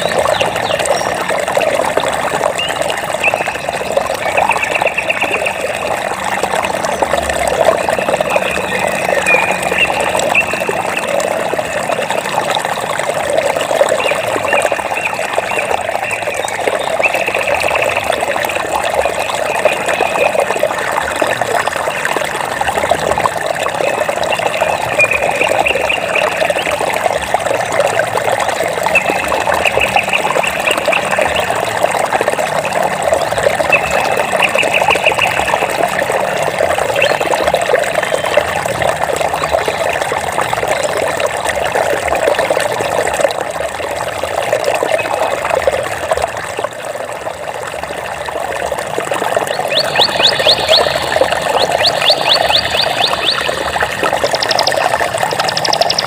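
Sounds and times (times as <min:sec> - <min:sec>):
water flowing and trickling: 0:00.0 - 0:56.0.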